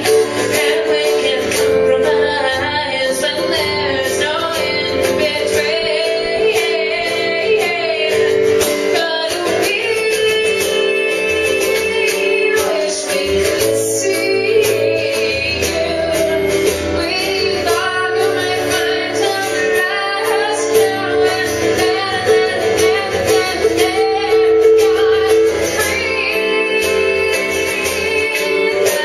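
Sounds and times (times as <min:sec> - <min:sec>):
acoustic guitar: 0:00.0 - 0:29.0
woman singing: 0:00.0 - 0:29.0.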